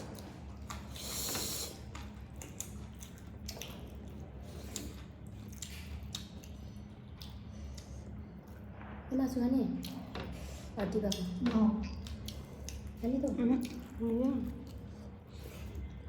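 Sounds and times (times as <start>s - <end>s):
wet chewing and squishing: 0.0s - 1.0s, 1.8s - 8.7s, 11.0s - 16.0s
steady low hum: 0.0s - 16.0s.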